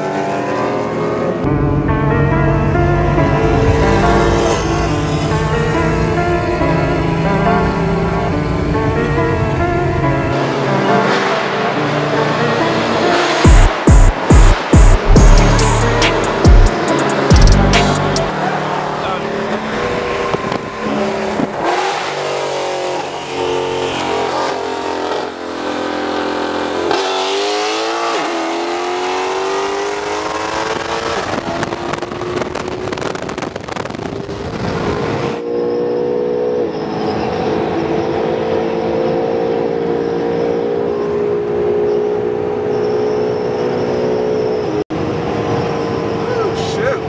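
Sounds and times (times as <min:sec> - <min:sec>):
car engines at full throttle: 0:00.0 - 0:47.0.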